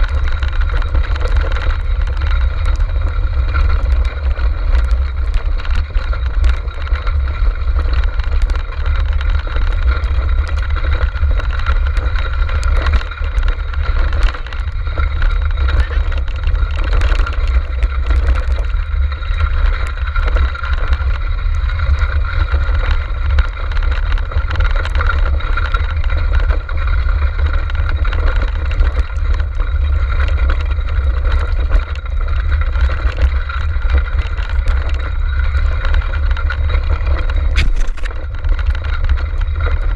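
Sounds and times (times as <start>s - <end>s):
cart clicks and rattles: 0.0s - 39.9s
cart rolling over dirt trail: 0.0s - 39.9s.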